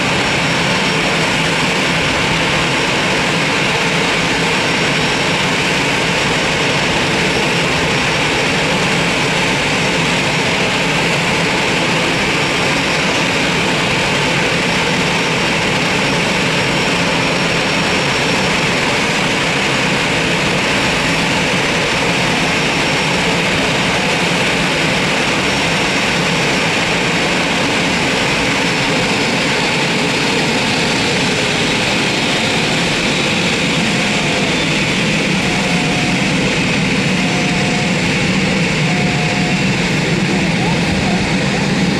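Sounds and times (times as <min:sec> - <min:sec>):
jet engines roaring: 0:00.0 - 0:41.9.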